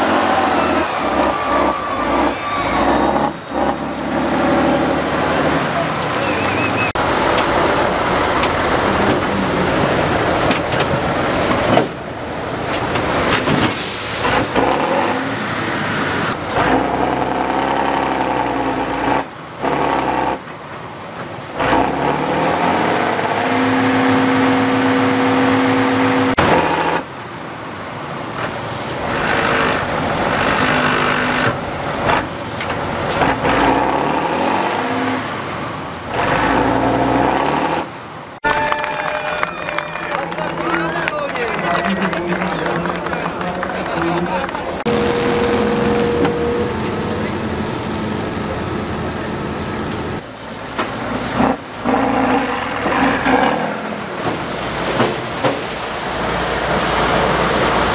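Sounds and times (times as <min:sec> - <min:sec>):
truck diesel engine revving: 0:00.0 - 0:38.4, 0:40.2 - 0:57.9.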